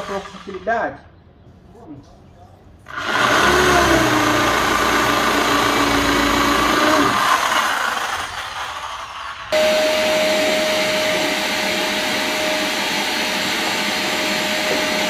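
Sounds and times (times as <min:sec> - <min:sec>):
electric drill boring into wood: 0:02.9 - 0:15.0.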